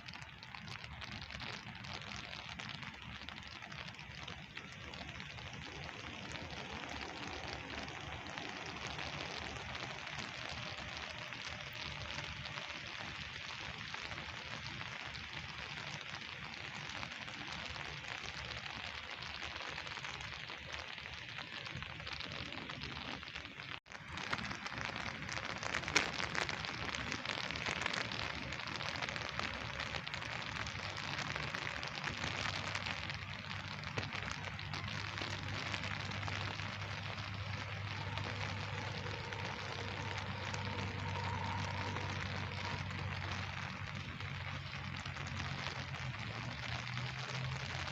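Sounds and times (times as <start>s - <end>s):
rain pattering on surfaces: 0.0s - 47.9s.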